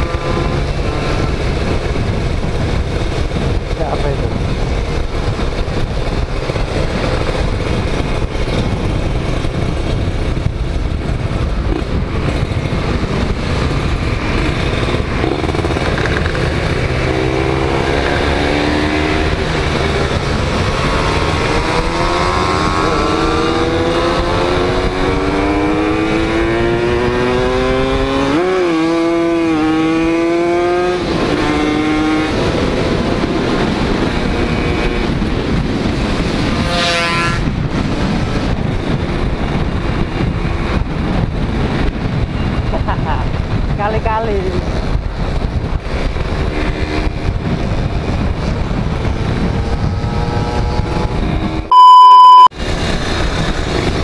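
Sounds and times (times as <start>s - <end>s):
motorcycle engine revving: 0.0s - 42.7s, 43.8s - 54.0s
wind rumble on microphone: 0.0s - 51.7s, 52.5s - 54.0s.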